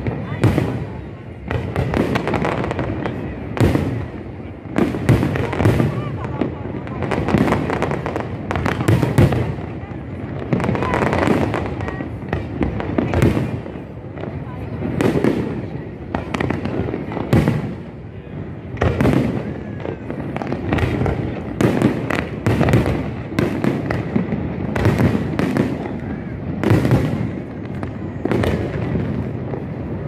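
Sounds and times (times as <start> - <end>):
fireworks bursting with loud bangs: 0.0 - 30.0.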